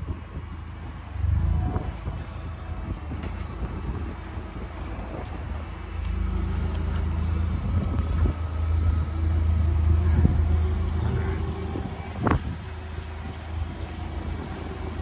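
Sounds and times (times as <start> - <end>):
forklift engine humming: 0.0 - 15.0.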